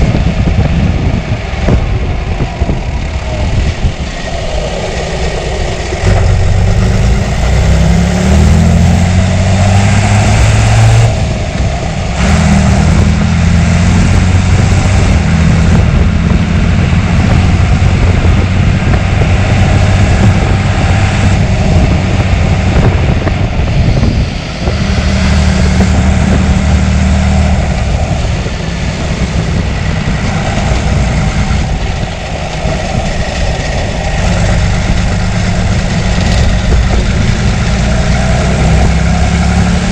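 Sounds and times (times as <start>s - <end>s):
diesel tractor engine revving: 0.0s - 39.9s.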